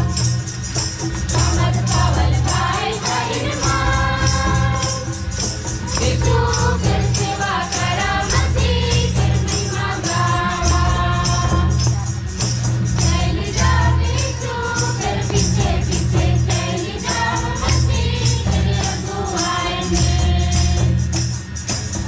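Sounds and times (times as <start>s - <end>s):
barrel drums: 0.0s - 22.0s
sharp percussion beat: 0.0s - 22.0s
group singing a hymn: 1.3s - 12.1s, 13.0s - 21.2s.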